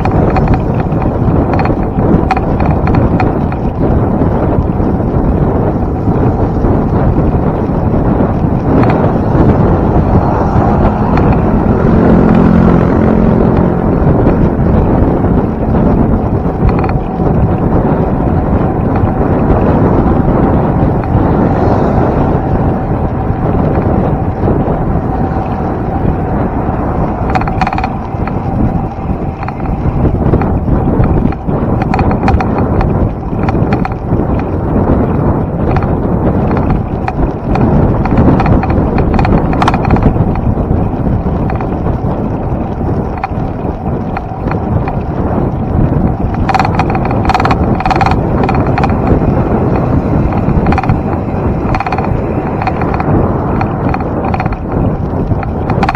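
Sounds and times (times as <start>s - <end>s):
clicks and rattles: 0.0s - 21.6s, 23.4s - 34.6s, 35.6s - 55.9s
wind rushing over microphone: 0.0s - 55.9s.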